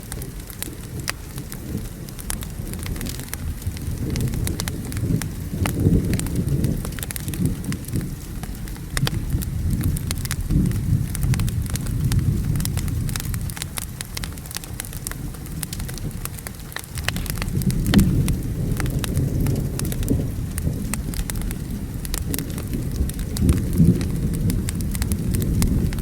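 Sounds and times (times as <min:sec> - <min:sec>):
low rolling thunder: 0:00.0 - 0:26.0
steady rain: 0:00.0 - 0:26.0
wood fire crackling: 0:00.0 - 0:26.0.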